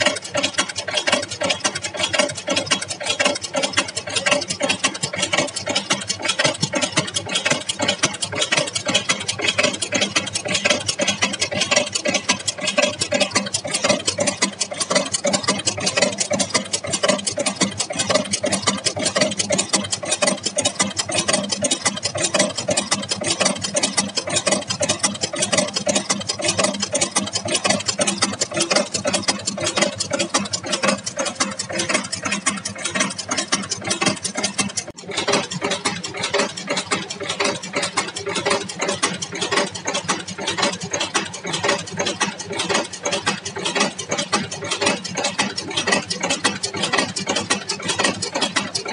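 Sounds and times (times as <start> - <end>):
chain making machine clattering: 0.0 - 48.9.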